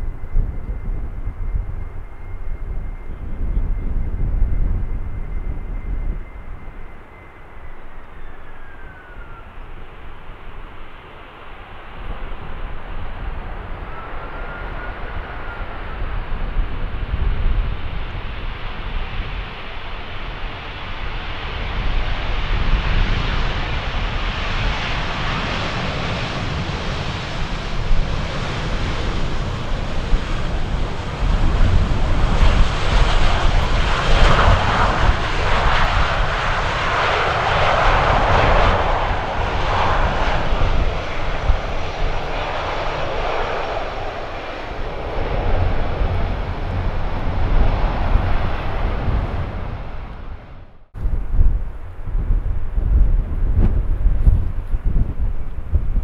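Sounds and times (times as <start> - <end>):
jet engines roaring: 0.0 - 56.0
wind rumbling on microphone: 0.0 - 56.0.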